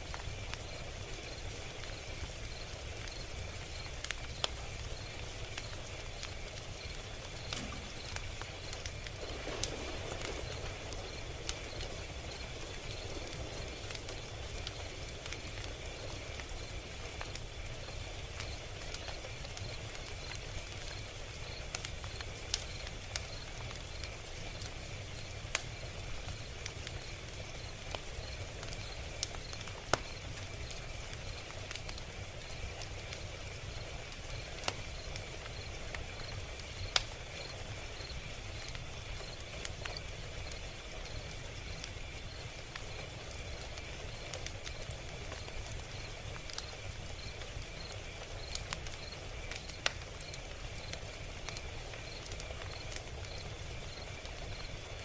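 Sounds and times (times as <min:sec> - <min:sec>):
log fire popping and snapping: 0:00.0 - 0:55.0
low rumble of burning: 0:00.0 - 0:55.0.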